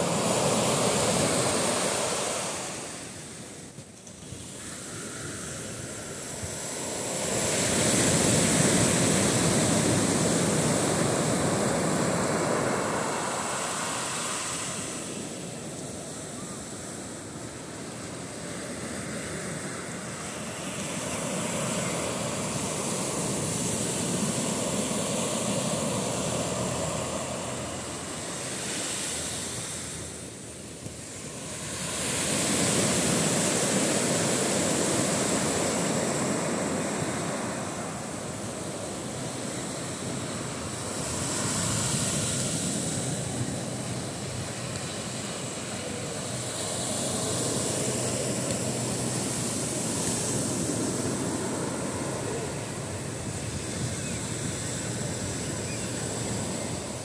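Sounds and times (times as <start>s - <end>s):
waves washing up a beach: 0.0s - 57.0s.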